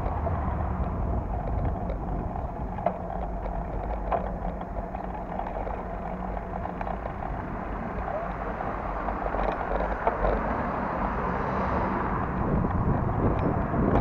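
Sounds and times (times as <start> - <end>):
tram rumbling on rails: 0.0 - 14.0
wind on microphone: 0.0 - 14.0.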